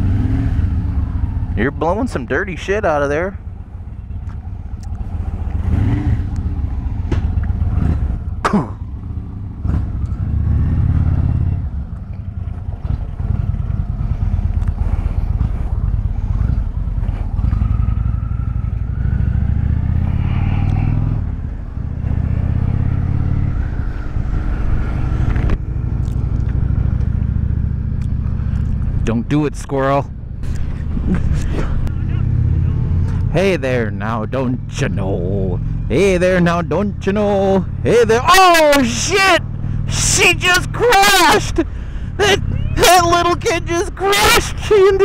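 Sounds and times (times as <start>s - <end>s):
motorcycle engines running: 0.0s - 45.0s.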